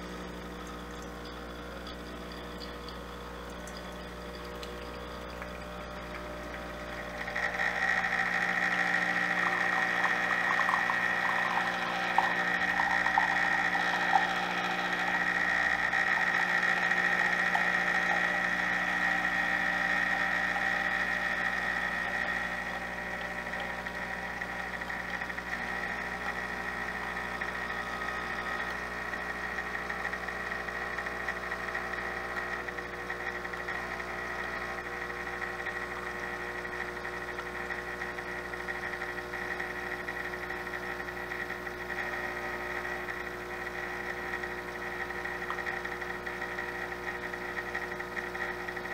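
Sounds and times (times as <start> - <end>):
coffee machine humming: 0.0 - 48.9.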